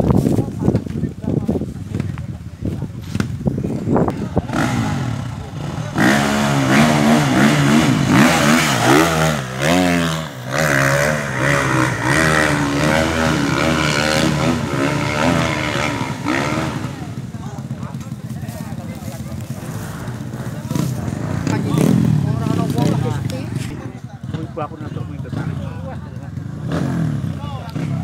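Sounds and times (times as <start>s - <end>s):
dirt bike engine revving: 1.9s - 28.0s.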